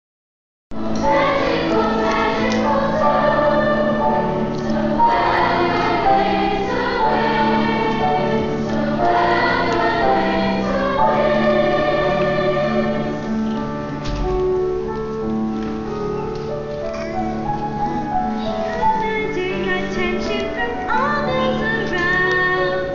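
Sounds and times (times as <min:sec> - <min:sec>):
children's choir singing: 0:00.7 - 0:14.0, 0:17.2 - 0:22.9.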